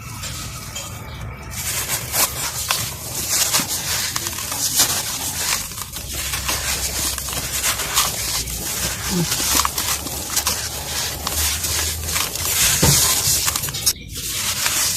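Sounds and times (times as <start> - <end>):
brittle material crumbling and crackling: 0.1 - 14.9.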